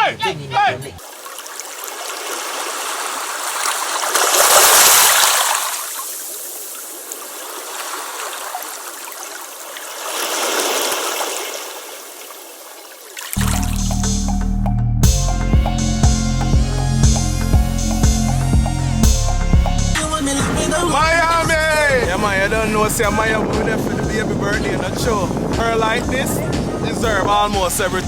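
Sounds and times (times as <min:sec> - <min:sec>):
water rushing past a boat: 0:00.0 - 0:14.3, 0:16.6 - 0:28.0.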